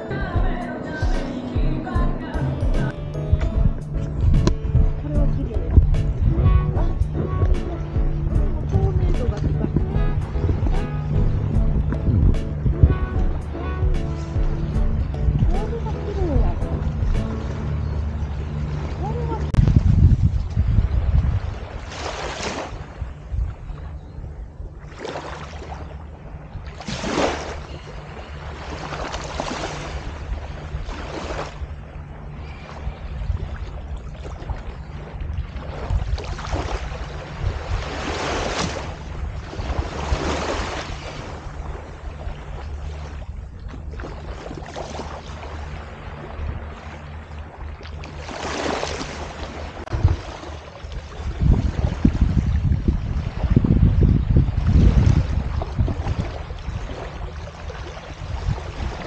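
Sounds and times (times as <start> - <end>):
low engine hum: 0.0 - 59.0
waves washing: 0.0 - 59.0.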